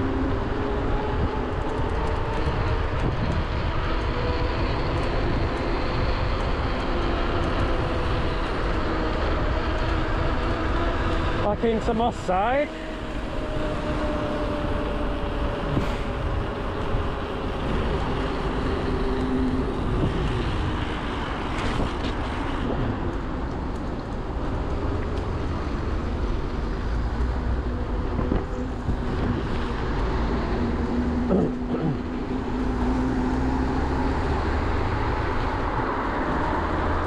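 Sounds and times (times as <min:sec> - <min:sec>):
road and traffic noise: 0:00.0 - 0:37.0.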